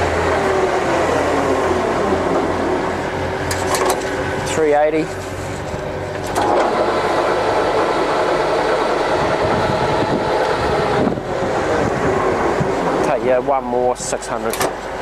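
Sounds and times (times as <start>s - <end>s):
lathe whirring with gear whine: 0.0s - 15.0s.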